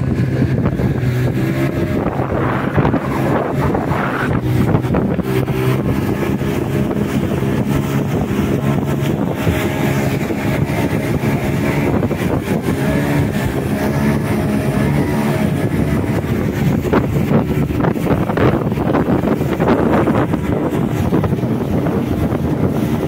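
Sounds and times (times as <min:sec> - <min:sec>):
boat engine running: 0:00.0 - 0:23.0
wind buffeting microphone: 0:00.0 - 0:23.0.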